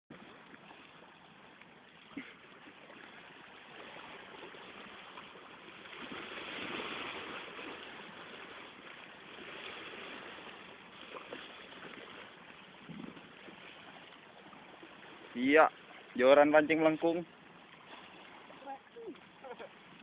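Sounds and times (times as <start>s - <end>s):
sea water rushing around boat: 0.1s - 20.0s.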